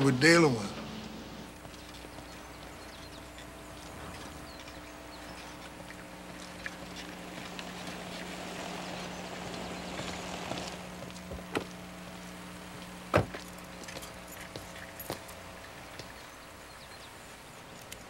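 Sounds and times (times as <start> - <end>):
low steady hum: 0.0 - 18.0
faint footsteps on paved road: 0.1 - 18.0.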